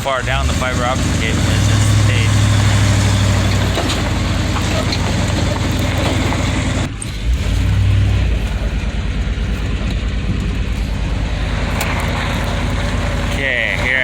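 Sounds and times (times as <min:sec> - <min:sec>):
road noise on dirt road: 0:00.0 - 0:14.0
vehicle engine running: 0:00.0 - 0:14.0.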